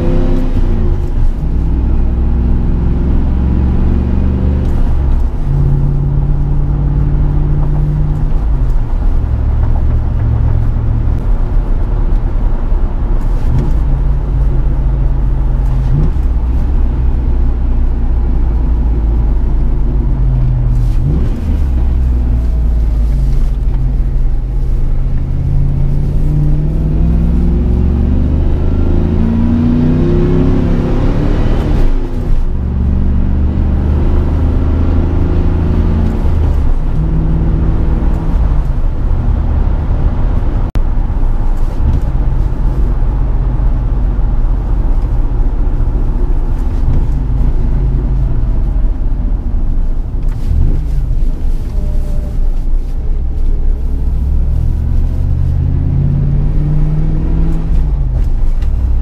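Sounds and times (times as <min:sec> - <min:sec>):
pickup engine accelerating: 0:00.0 - 0:59.0.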